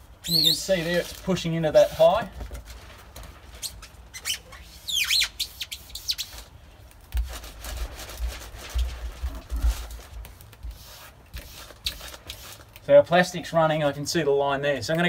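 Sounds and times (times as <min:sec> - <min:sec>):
foam squeaking and rubbing: 0:00.0 - 0:12.8.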